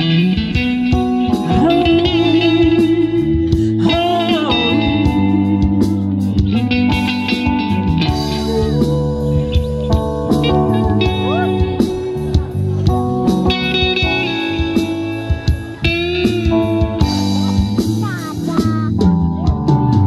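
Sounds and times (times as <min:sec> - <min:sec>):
bass: 0:00.0 - 0:20.0
drums: 0:00.0 - 0:20.0
electric guitar lead: 0:00.0 - 0:20.0.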